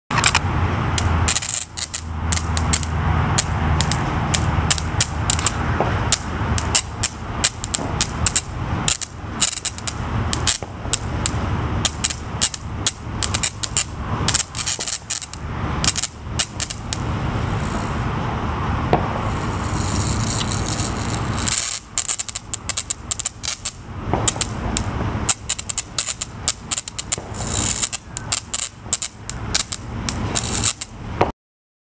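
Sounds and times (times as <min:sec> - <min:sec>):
bug zapper crackling and snapping: 0:01.0 - 0:17.0, 0:19.4 - 0:31.0
bug zapper hiss: 0:01.0 - 0:18.0, 0:19.2 - 0:31.0.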